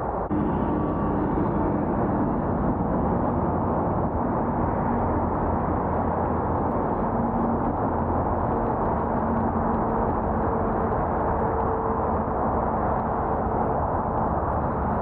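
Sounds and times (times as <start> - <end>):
road traffic hum: 0.0 - 15.0
wind rushing on microphone: 0.0 - 15.0.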